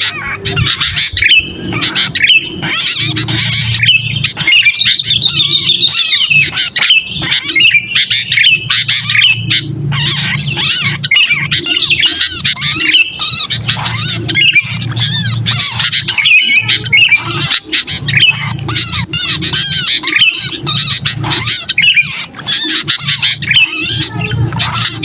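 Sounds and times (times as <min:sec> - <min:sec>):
bird distress calls: 0:00.0 - 0:25.0
steady low hum: 0:00.0 - 0:25.0.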